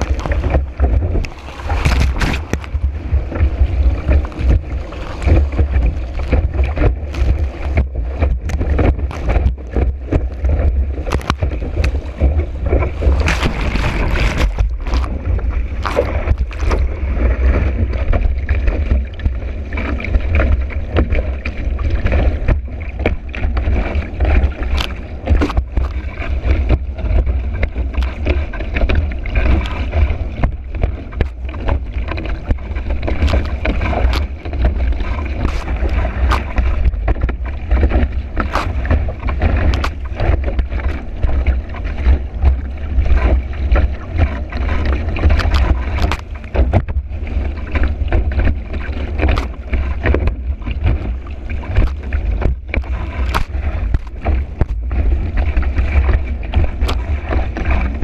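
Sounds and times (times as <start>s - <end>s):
board slapping water: 0.0s - 58.0s.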